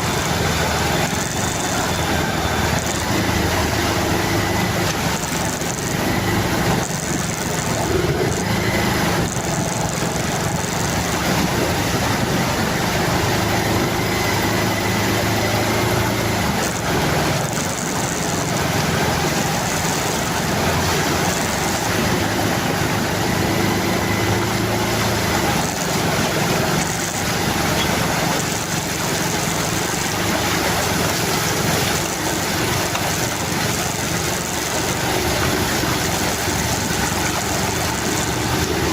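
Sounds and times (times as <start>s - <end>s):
constant rushing noise: 0.0s - 38.9s
vehicle engine running: 0.0s - 38.9s.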